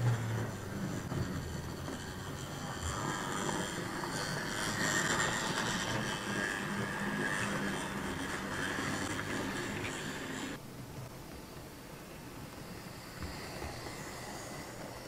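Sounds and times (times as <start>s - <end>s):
electric motor whirr: 0.0s - 10.6s, 12.5s - 15.0s
model train wheels rattling on rails: 0.0s - 10.6s, 12.4s - 15.0s.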